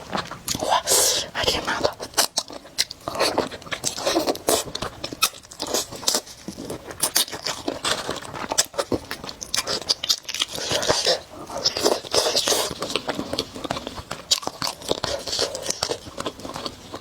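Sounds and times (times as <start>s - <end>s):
chewing clicks: 0.2s - 17.0s.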